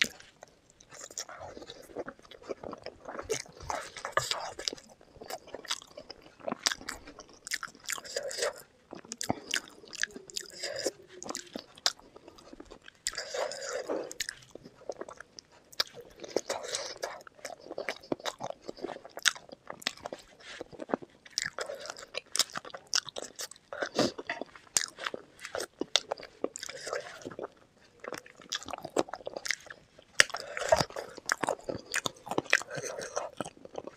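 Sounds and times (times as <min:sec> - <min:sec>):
chewing and biting: 0:00.0 - 0:33.9.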